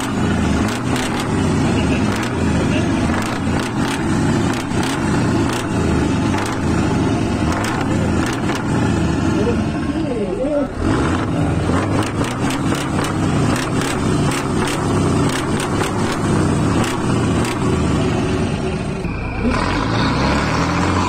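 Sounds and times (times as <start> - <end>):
exhaust crackles: 0.0 - 21.0
truck diesel engine revving: 0.0 - 21.0.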